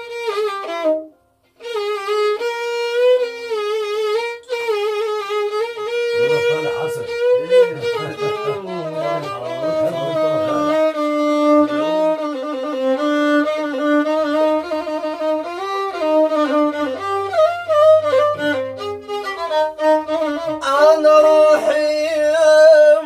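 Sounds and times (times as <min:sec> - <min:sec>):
solo violin playing: 0:00.0 - 0:23.0.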